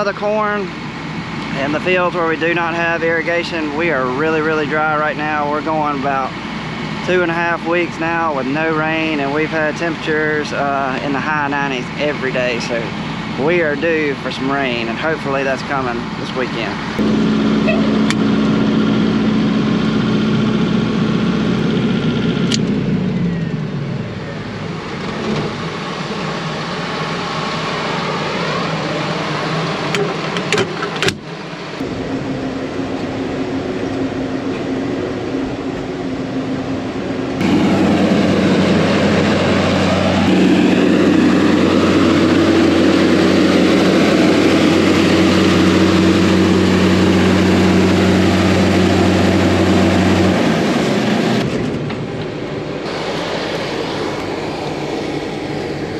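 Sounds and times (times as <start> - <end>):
engine running: 0.0 - 55.9
louder engine running: 0.0 - 55.9.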